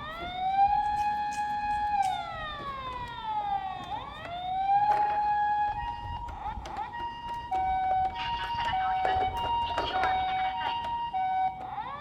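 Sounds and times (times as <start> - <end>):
toy electronic wail siren: 0.0 - 12.0.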